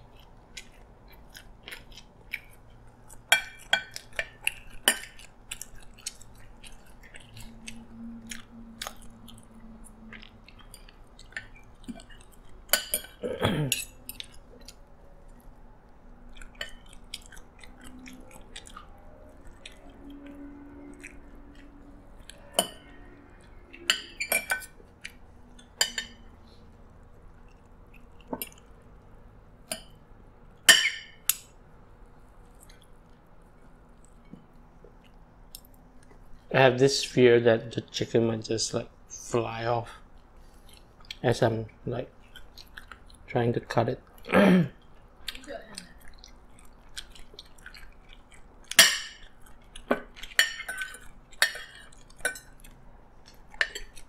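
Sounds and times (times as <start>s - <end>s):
chewing and mouth noises: 0.0s - 30.5s, 31.3s - 37.2s, 39.9s - 43.4s, 44.0s - 54.0s.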